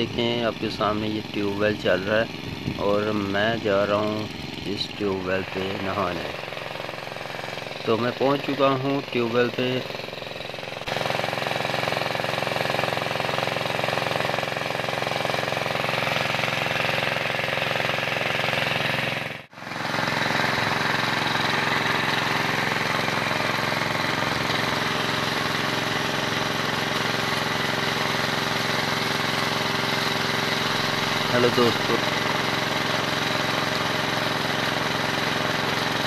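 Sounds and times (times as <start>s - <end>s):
pump engine running: 0.0s - 36.0s.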